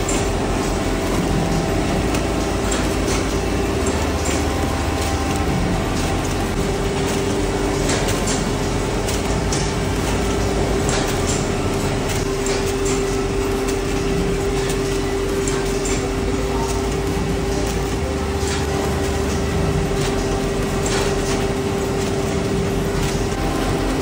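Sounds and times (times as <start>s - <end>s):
packaging machine humming: 0.0s - 24.0s.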